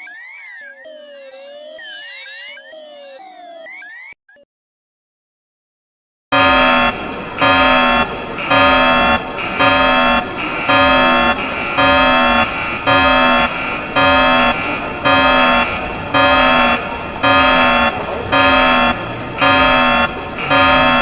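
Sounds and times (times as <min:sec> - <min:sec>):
warbling emergency alert tone: 0:00.0 - 0:04.2, 0:06.4 - 0:21.0.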